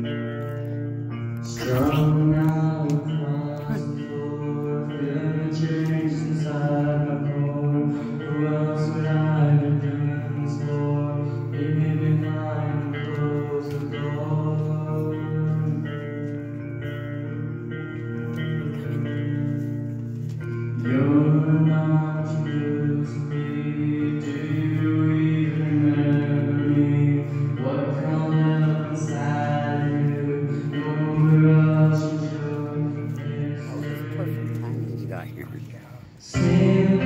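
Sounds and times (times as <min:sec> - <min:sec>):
live solo guitar song: 0:00.0 - 0:37.0.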